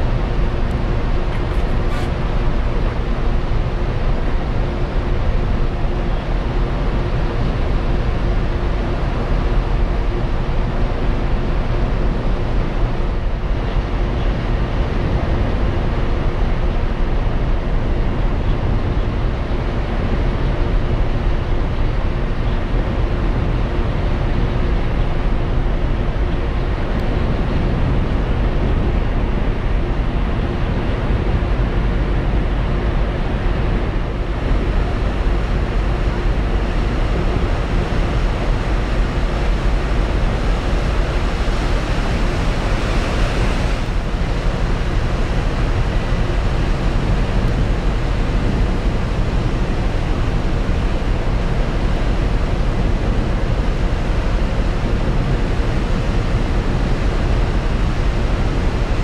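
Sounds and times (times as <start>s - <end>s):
sea rushing: 0.0s - 18.0s, 25.9s - 59.0s
faint steady hum: 0.0s - 59.0s.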